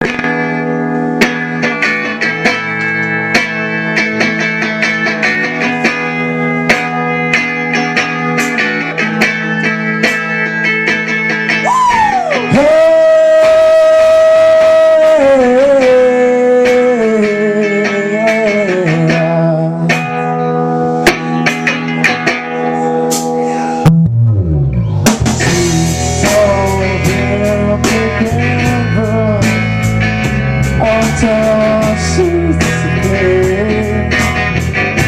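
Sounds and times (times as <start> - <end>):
picked guitar notes: 0.0 - 35.0.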